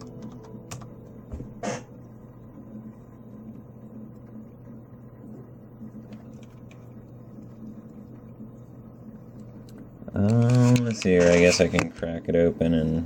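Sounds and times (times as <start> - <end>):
computer humming: 0.0 - 13.0.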